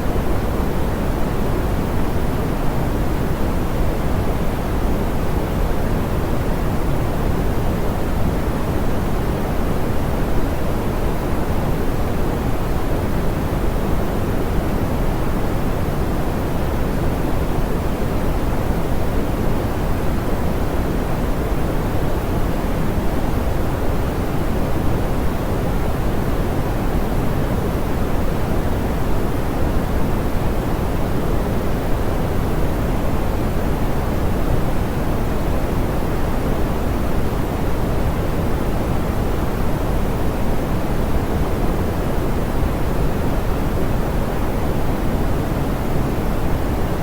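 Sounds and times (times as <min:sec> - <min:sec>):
soft pink noise hiss: 0:00.0 - 0:47.0.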